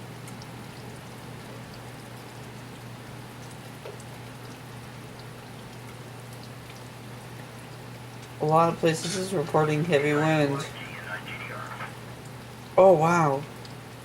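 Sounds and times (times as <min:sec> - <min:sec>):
faint drip ticks: 0:00.0 - 0:14.0
low steady hum: 0:00.0 - 0:14.0
steady rain falling: 0:00.0 - 0:14.0.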